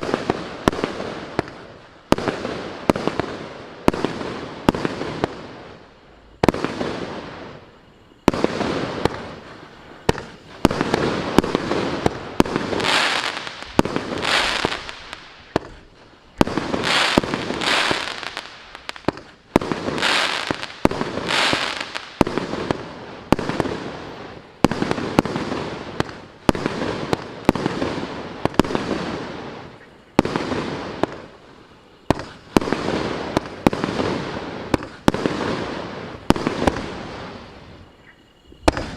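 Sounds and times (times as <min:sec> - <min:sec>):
fireworks bangs: 0:06.4 - 0:31.4, 0:32.0 - 0:38.9.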